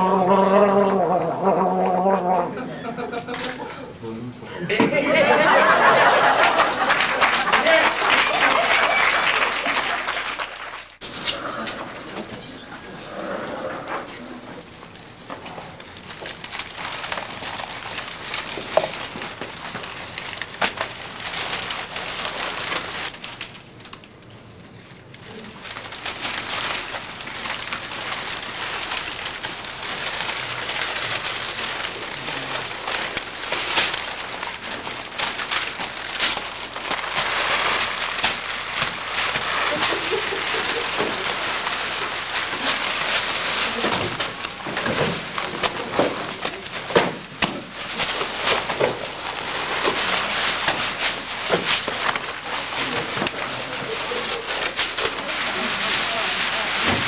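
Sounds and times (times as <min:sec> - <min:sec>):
newspaper crumpling and tearing: 0:00.0 - 0:02.2, 0:05.2 - 0:12.3, 0:14.6 - 0:57.0.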